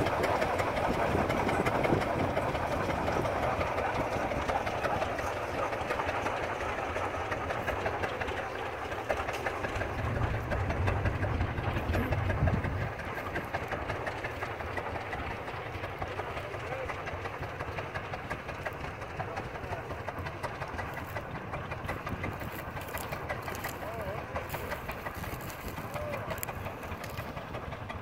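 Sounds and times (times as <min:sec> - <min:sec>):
tractor engine clattering under load: 0:00.0 - 0:28.0.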